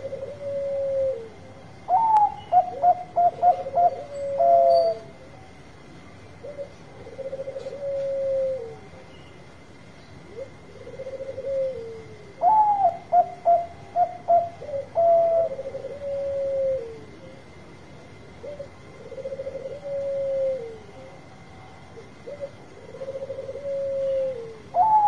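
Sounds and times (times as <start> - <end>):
dove cooing: 0.0 - 5.6, 6.4 - 9.1, 10.2 - 17.6, 18.2 - 25.0.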